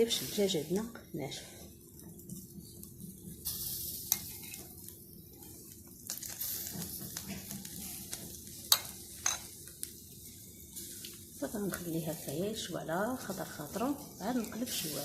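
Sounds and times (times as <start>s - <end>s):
chicken sizzling in oil: 0.0s - 1.0s, 2.3s - 15.0s.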